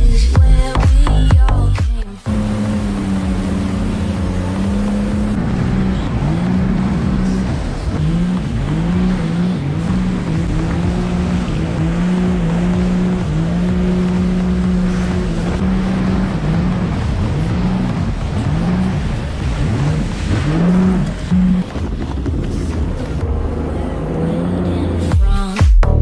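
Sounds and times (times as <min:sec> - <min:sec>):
jet ski engine revving: 0:00.0 - 0:25.2
water spraying: 0:02.0 - 0:24.2.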